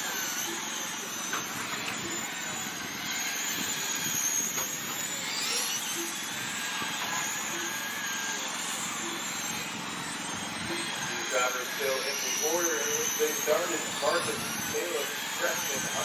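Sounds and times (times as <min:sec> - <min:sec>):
electric rc cars motor whine: 0:00.0 - 0:16.0.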